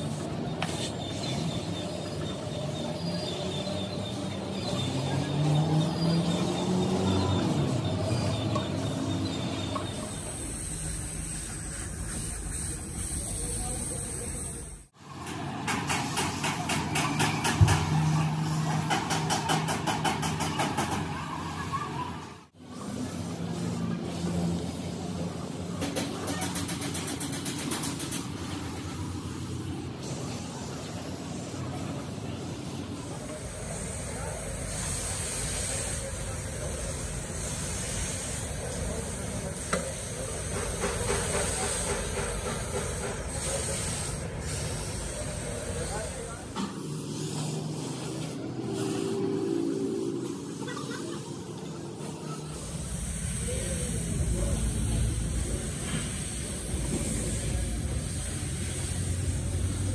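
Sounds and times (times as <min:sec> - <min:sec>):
spray gun hissing: 0:00.0 - 0:59.9.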